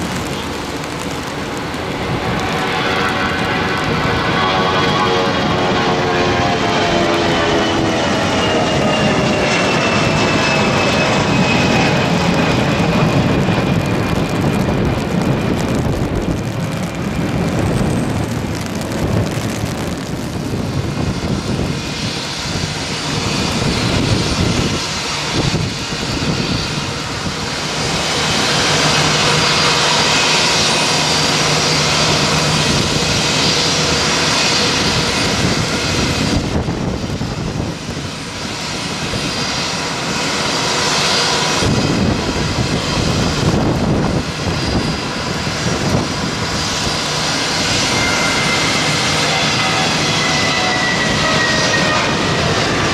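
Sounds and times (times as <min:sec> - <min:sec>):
jet engine rushing whine: 0:00.0 - 0:52.9.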